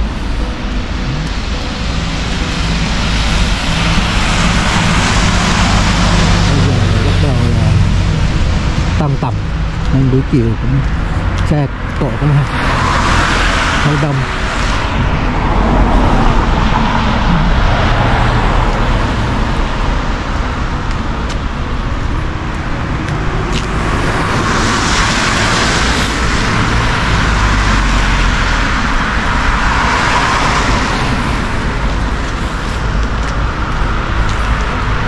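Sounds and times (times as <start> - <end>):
cars passing on wet street: 0.0 - 35.0
low traffic rumble: 0.0 - 35.0.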